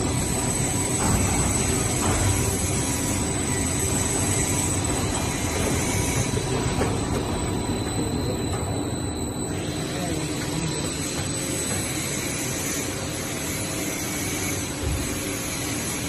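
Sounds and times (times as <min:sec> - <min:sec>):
faint whining tones: 0:00.0 - 0:15.8.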